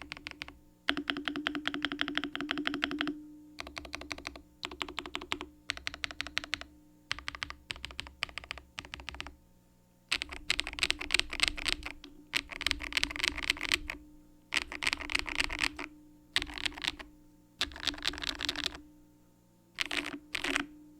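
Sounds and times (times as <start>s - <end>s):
mechanical keyboard typing: 0.0s - 9.4s, 10.1s - 18.8s, 19.8s - 20.7s.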